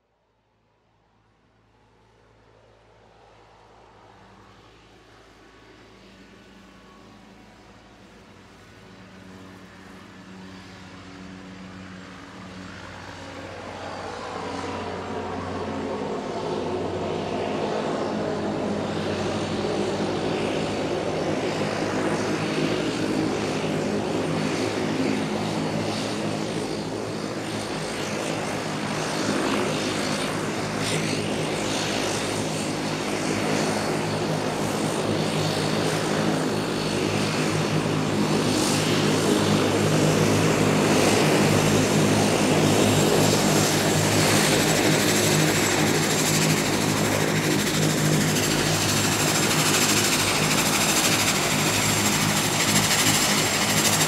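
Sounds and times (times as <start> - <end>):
airplane engine roar: 1.1 - 54.0.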